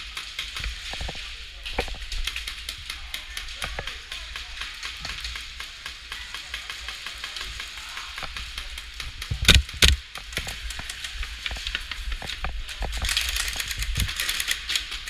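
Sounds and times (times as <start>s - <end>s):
airsoft guns clicking: 0.0s - 15.0s.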